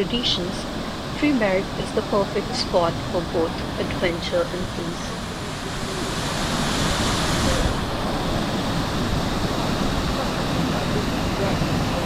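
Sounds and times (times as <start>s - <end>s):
waterfall rushing: 0.6s - 12.0s.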